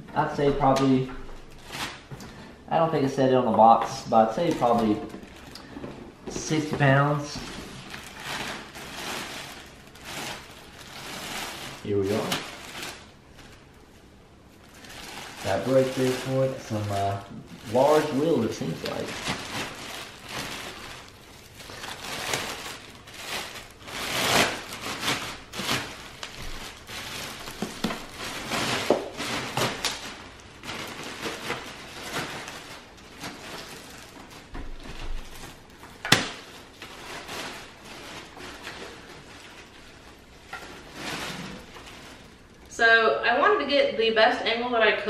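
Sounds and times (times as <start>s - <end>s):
plastic sheet rustling: 0.2s - 42.8s.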